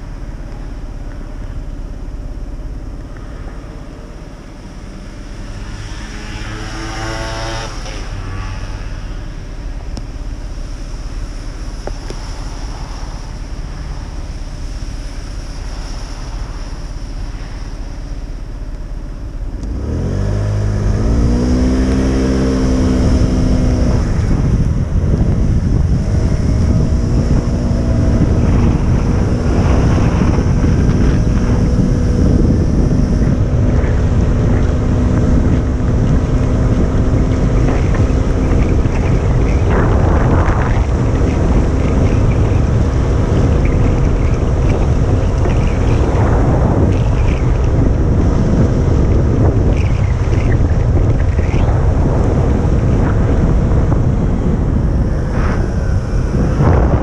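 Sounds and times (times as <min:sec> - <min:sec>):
motorcycle engine accelerating: 0:00.0 - 0:57.0
wind buffeting microphone: 0:00.0 - 0:57.0.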